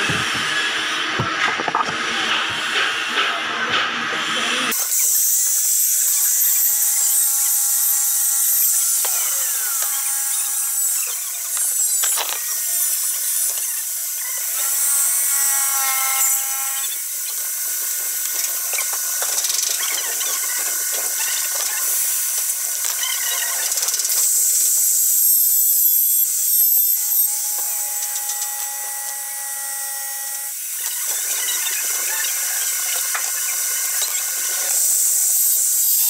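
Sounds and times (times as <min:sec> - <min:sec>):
metal tool hissing and squealing: 0:04.2 - 0:36.0.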